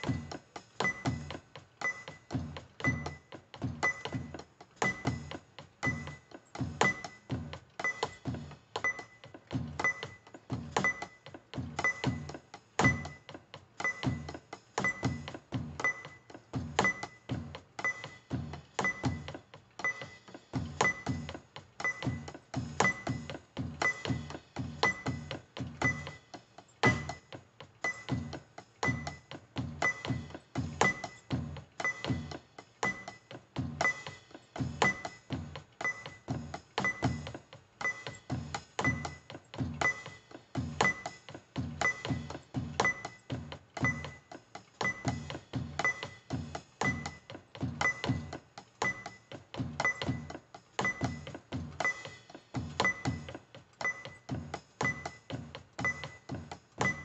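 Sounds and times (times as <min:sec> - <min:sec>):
electronic drum kit groove: 0:00.0 - 0:57.0.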